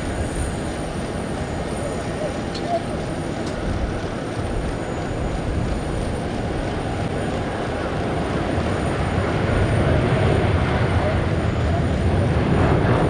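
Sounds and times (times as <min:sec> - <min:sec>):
jet engines rushing: 0:00.0 - 0:13.0
tyres on runway: 0:00.0 - 0:13.0.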